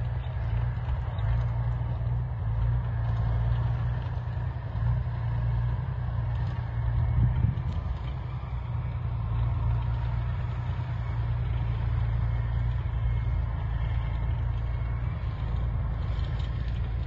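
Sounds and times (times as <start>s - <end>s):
tracked vehicle diesel engine: 0.0s - 17.0s.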